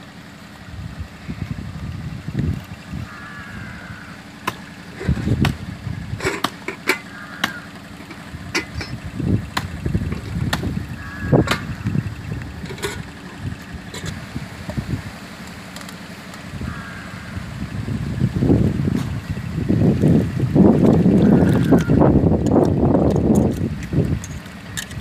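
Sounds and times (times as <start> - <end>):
wind buffeting microphone: 0.7 - 4.0, 4.9 - 6.4, 8.2 - 15.2, 16.5 - 25.0.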